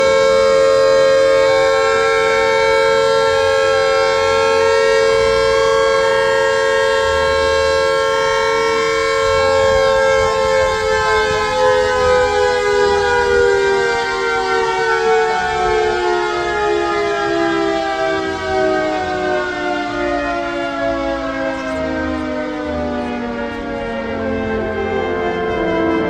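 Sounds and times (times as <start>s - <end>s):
air raid siren wailing: 0.0s - 26.0s.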